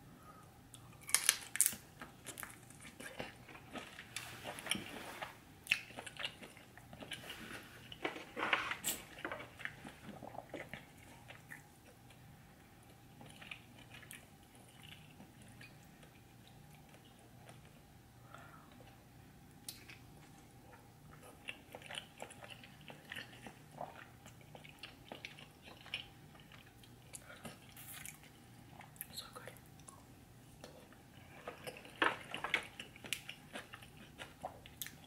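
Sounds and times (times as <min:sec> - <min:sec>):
person chewing food: 0:00.7 - 0:35.0.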